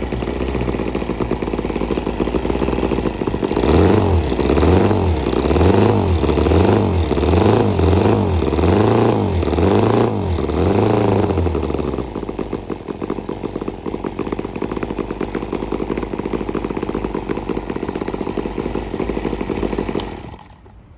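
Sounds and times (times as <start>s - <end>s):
model engine revving and idling: 0.0s - 20.9s.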